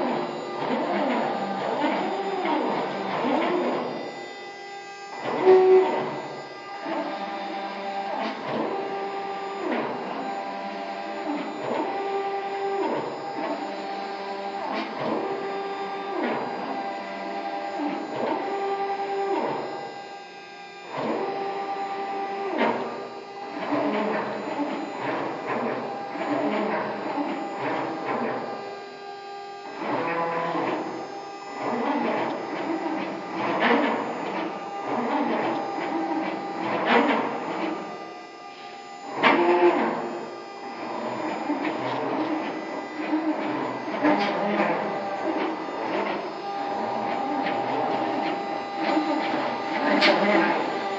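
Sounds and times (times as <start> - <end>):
router drive motors whining: 0.0 - 50.9.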